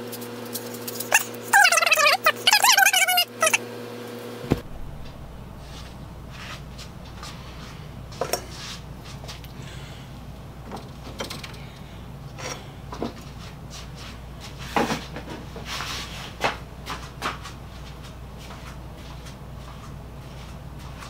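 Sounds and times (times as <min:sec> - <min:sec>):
steady low hum: 0:04.1 - 0:21.0.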